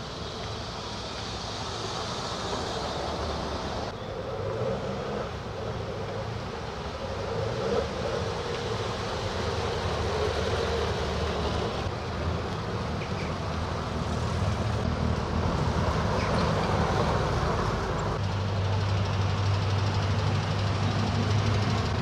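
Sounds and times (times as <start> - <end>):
car engines driving past: 0.0 - 22.0.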